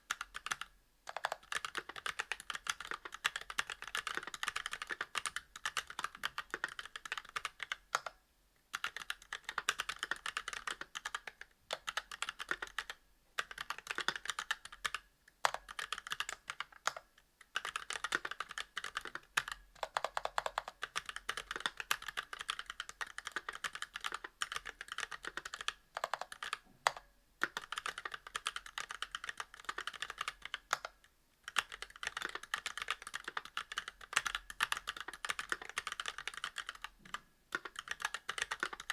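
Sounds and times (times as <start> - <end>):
fast typing on mechanical keyboard: 0.1 - 8.1, 8.7 - 38.9.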